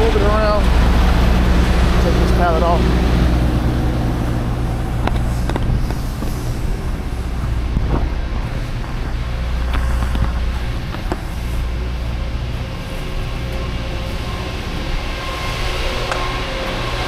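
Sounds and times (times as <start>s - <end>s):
diesel truck engine humming: 0.0s - 17.0s.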